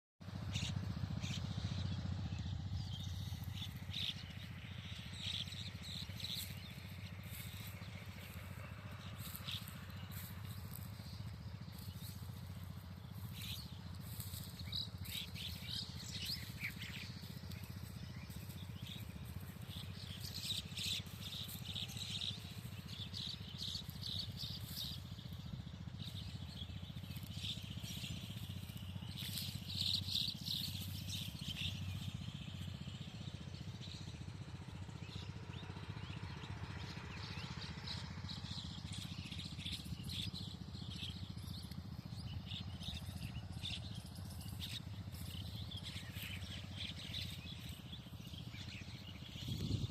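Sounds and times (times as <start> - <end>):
small birds chirping: 0.2 - 49.9
steady low hum: 0.3 - 37.0, 37.7 - 49.9.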